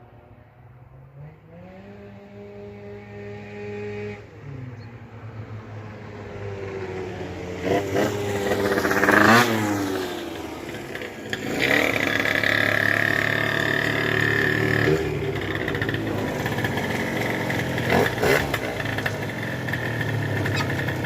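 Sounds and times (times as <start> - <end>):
two-stroke engine revving: 1.2 - 21.0.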